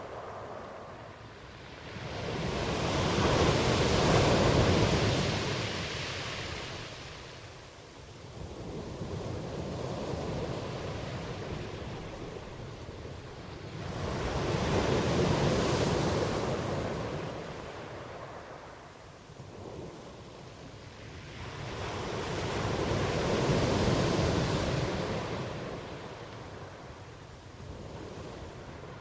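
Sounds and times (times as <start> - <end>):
gusting wind: 0.0 - 29.0.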